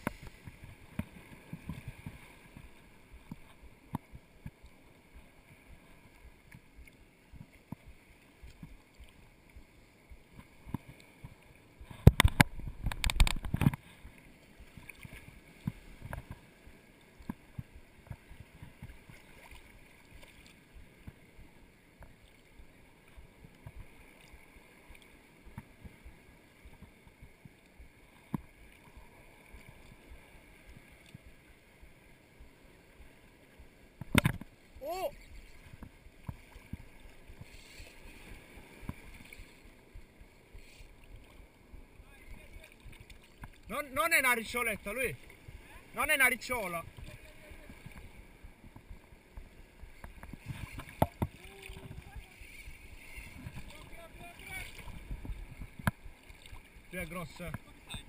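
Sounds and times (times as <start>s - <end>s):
sea water lapping and sloshing: 0.0s - 58.0s.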